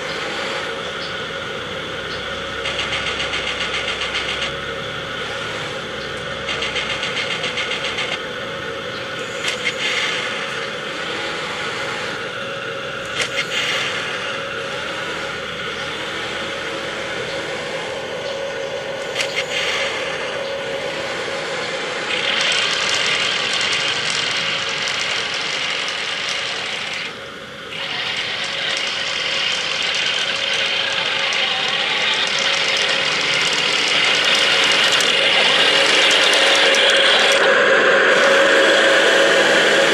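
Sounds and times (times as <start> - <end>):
model drive gears whirring: 0.0 - 39.9
recorded turbine engine sound: 0.0 - 39.9.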